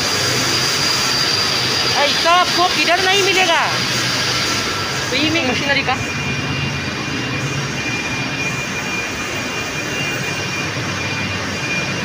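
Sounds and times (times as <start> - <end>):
high machine whine: 0.0 - 12.0
turbine machinery roaring: 0.0 - 12.0.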